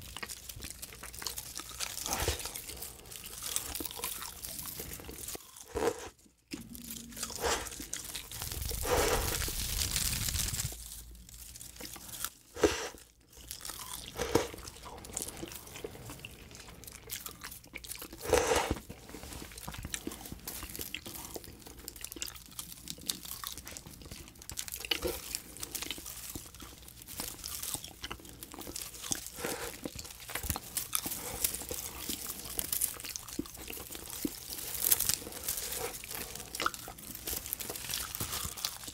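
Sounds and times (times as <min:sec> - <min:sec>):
crunchy chewing: 0:00.0 - 0:38.9
film crinkling and tearing: 0:00.0 - 0:38.9.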